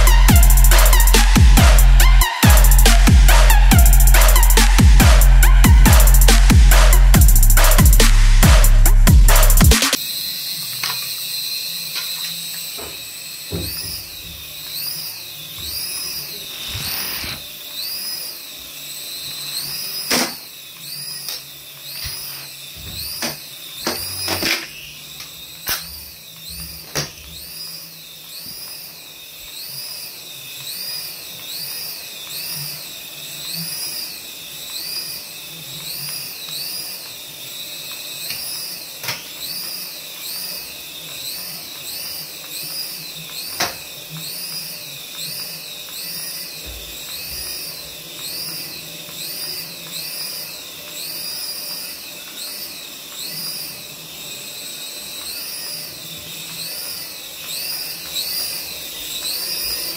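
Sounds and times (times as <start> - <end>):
toy helicopter rotor whine: 0.0 - 59.9.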